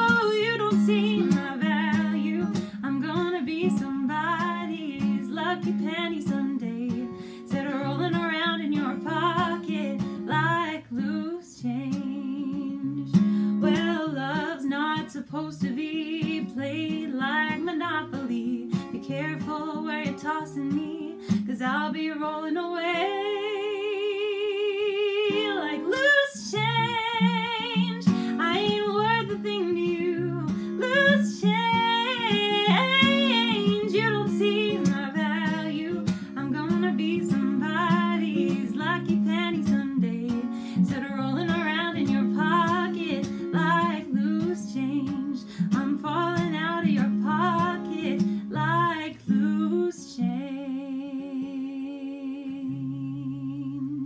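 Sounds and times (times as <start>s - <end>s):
acoustic guitar: 0.0s - 54.0s
woman singing: 0.0s - 54.0s.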